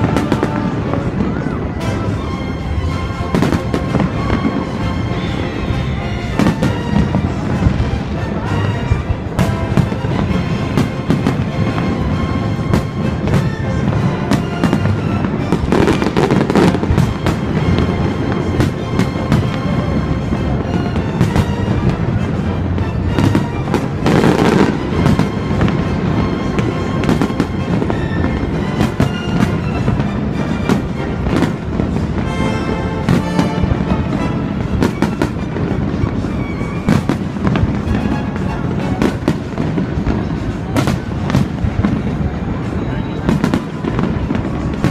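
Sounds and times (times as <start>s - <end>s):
fireworks bangs: 0.0s - 44.9s
music playing: 0.0s - 44.9s.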